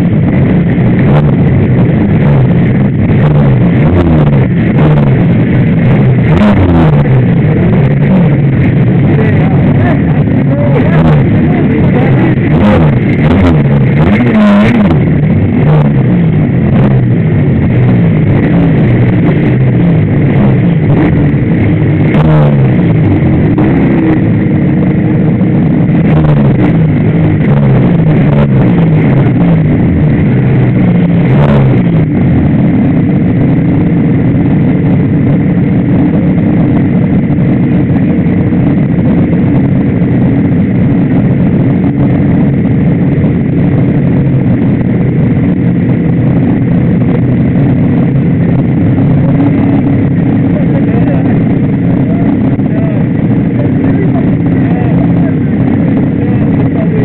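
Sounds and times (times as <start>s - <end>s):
motorcycle idling with throttle blips: 0.0s - 57.0s
other motorcycle engines running: 0.0s - 57.0s.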